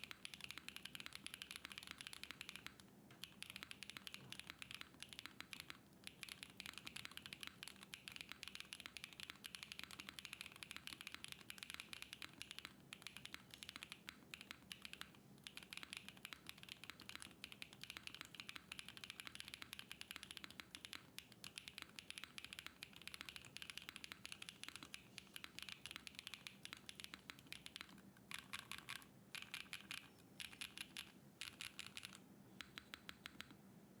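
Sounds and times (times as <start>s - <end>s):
mechanical keyboard keystroke clacks: 0.0s - 33.6s.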